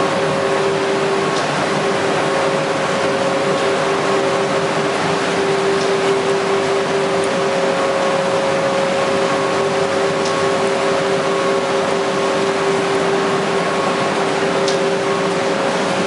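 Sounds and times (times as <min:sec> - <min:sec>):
machine whirring: 0:00.0 - 0:16.0
two-tone hum: 0:00.0 - 0:16.0.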